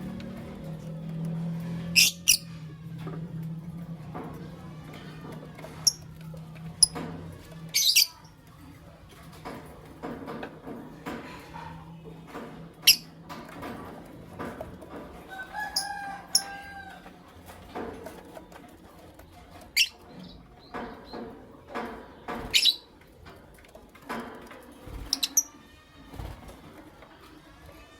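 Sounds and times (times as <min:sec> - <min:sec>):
birds chirping: 0:00.0 - 0:03.0, 0:03.6 - 0:23.6, 0:24.8 - 0:27.3.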